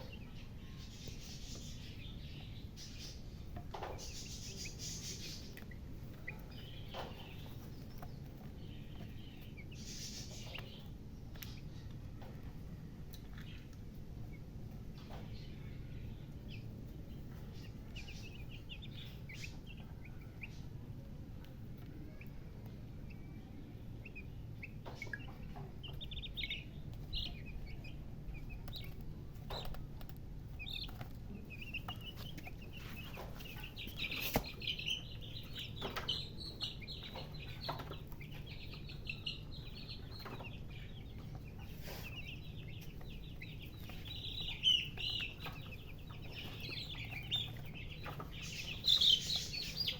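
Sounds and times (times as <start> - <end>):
chicks peeping: 0.0 - 49.9
steady low hum: 0.0 - 49.9.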